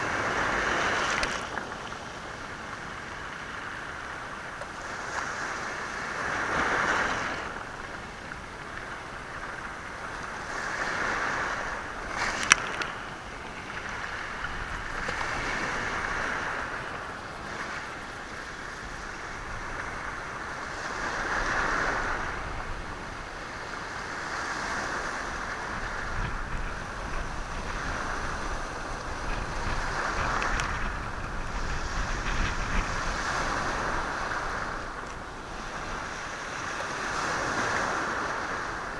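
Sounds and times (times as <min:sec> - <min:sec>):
waves washing over stones: 0:00.0 - 0:38.9
wind rumbling on microphone: 0:00.0 - 0:38.9.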